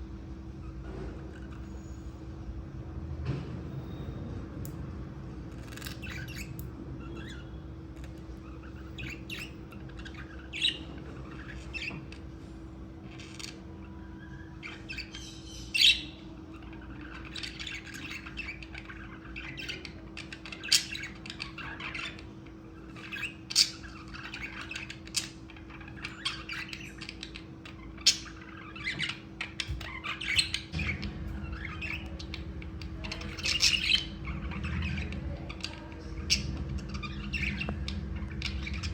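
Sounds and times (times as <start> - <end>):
budgerigars chirping and squawking: 0.6 - 2.2, 5.5 - 38.9.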